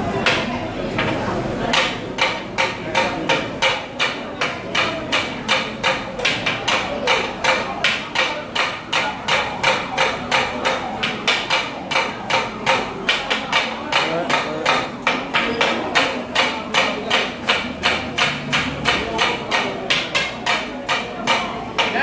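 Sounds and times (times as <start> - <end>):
metal spatula chopping on griddle: 0.2 - 22.0.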